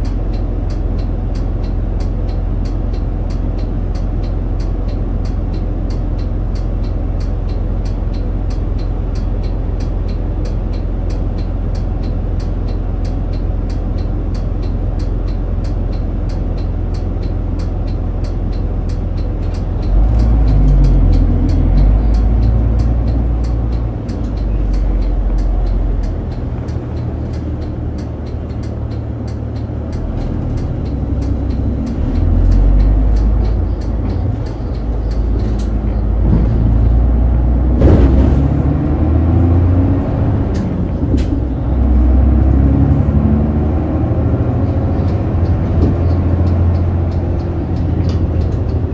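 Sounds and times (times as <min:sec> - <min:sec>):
bus engine and road rumble: 0:00.0 - 0:48.9
regular high ticking: 0:00.0 - 0:48.9.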